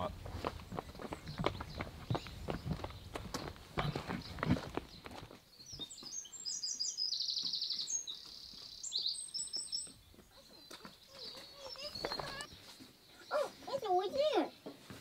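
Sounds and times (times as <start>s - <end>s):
songbird chirping and trilling: 0.4s - 15.0s.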